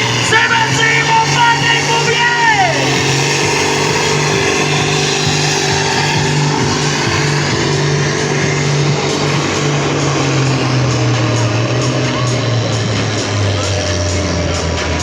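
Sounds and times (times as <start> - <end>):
vehicle engine revving under load: 0.0 - 15.0.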